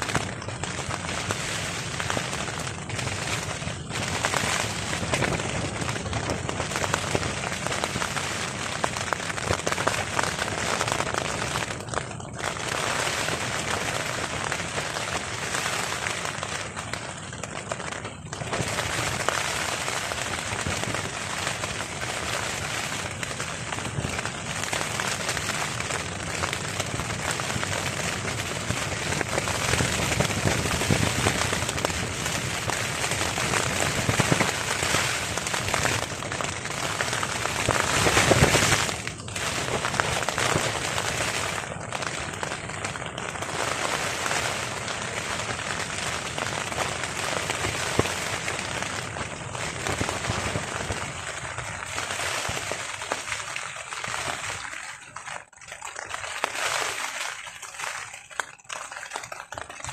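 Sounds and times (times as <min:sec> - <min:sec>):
rain pattering on a tarp: 0:00.0 - 0:59.9.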